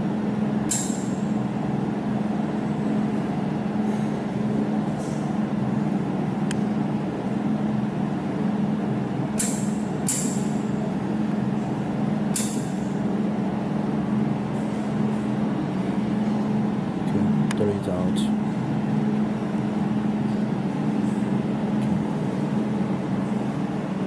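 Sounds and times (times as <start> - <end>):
laser welding machine humming: 0.0 - 24.0.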